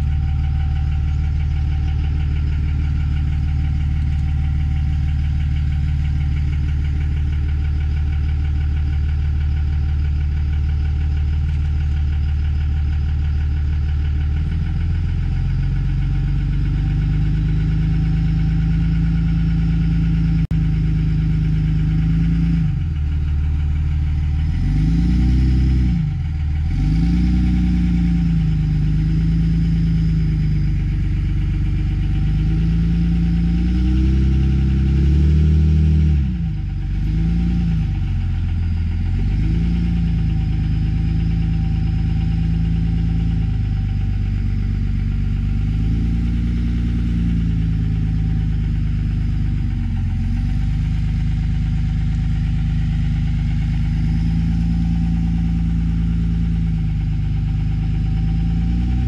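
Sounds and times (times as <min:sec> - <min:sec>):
motor engine idling: 0:00.0 - 0:59.0.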